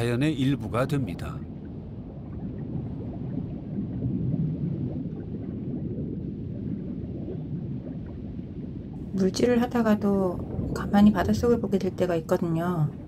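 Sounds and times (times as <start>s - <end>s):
bubbling gurgles: 0.0s - 13.0s
underwater rumble of moving water: 0.0s - 13.0s.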